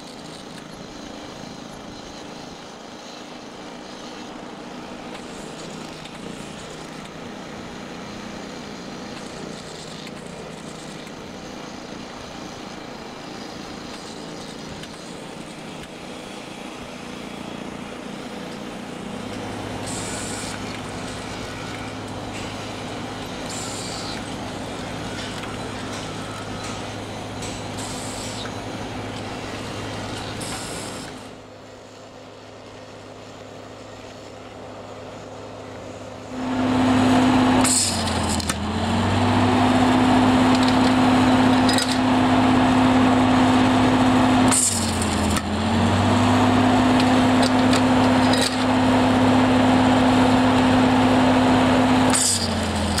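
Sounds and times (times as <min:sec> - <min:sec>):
welder electrical hum: 0:00.0 - 0:53.0.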